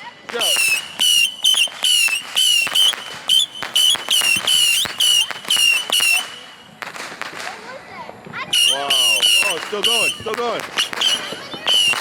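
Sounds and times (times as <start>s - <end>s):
firework cracks: 0.2s - 12.0s
firework shrill whistles: 0.3s - 7.4s, 8.5s - 12.0s.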